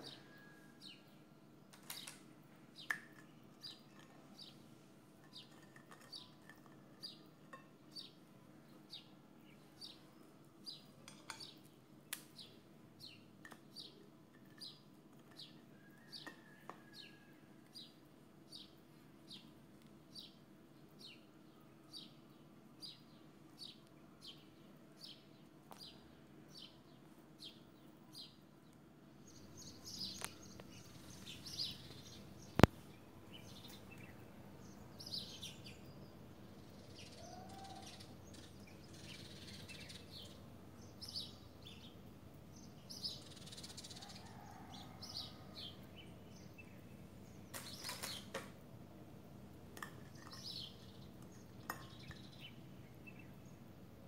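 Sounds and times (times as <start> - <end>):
bird chirping: 0.0 - 48.5, 49.8 - 53.6.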